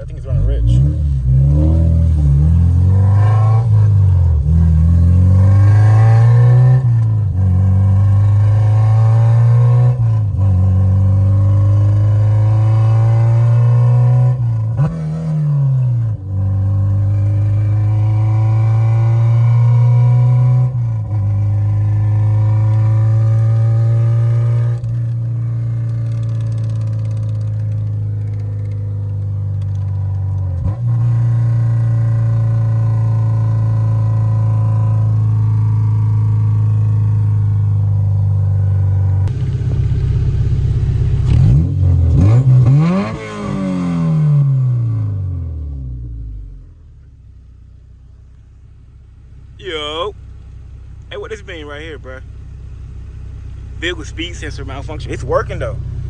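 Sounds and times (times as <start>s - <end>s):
car engine revving under throttle: 0.0s - 46.8s, 49.3s - 56.0s.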